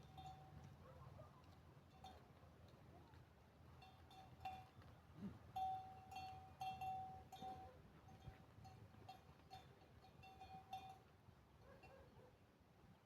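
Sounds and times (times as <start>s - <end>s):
sheep bells clinking: 0.0s - 2.8s, 3.6s - 12.0s.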